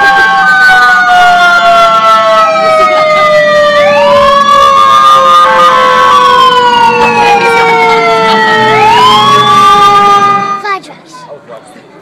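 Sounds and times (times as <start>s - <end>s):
fire truck sirens wailing: 0.0s - 10.7s.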